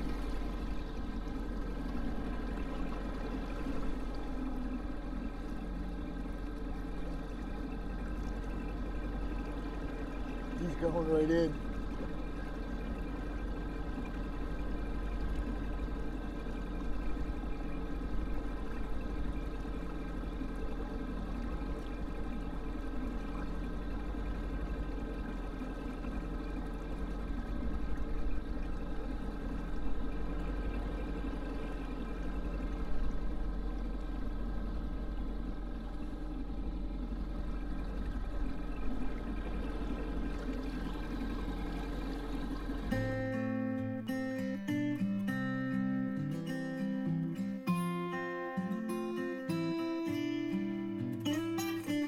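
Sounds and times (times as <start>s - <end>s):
boat motor humming: 0.0s - 52.0s
water rushing along hull: 0.0s - 52.0s.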